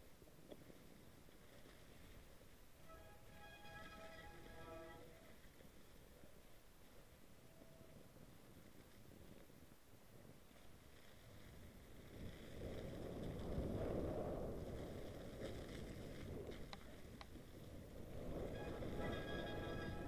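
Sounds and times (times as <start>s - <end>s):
wind and tyre rumble: 0.0s - 20.0s.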